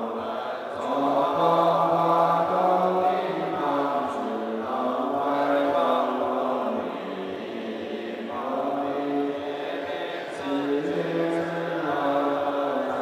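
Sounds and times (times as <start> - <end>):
monks chanting in unison: 0.0 - 13.0.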